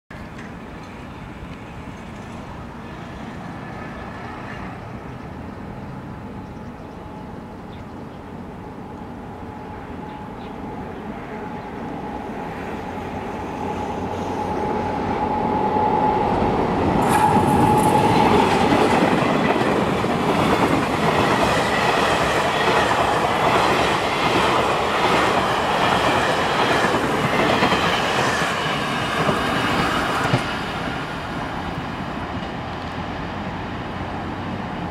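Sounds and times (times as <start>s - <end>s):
passenger train passing: 0.2s - 34.9s.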